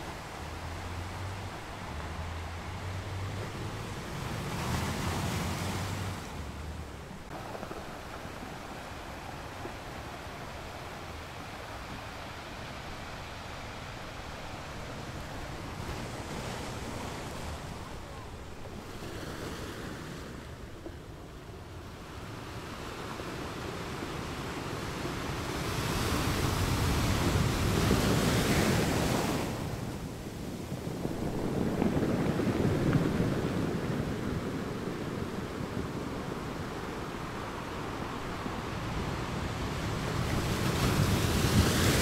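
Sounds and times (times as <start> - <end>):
sea waves breaking on shore: 0.0 - 42.0.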